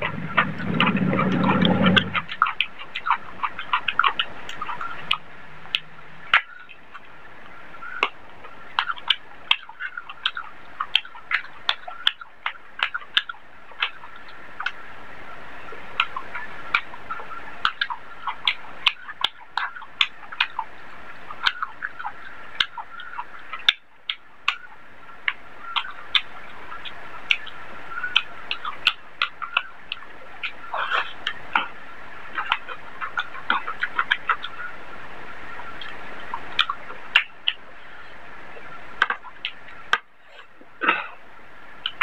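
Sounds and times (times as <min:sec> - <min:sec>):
wet chewing and smacking: 0:00.0 - 0:07.1, 0:07.8 - 0:14.8, 0:15.8 - 0:34.7, 0:35.5 - 0:37.8, 0:38.6 - 0:41.1.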